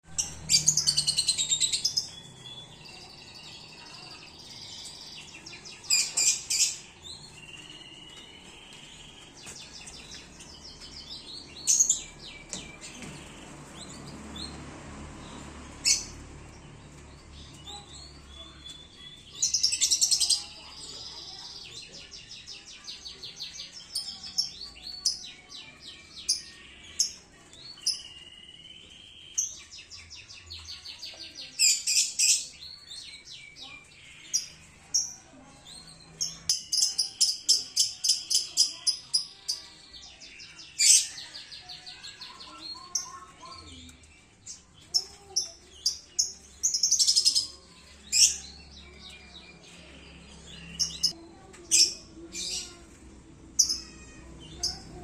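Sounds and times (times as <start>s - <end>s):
canaries chirping and trilling: 0.0s - 55.0s.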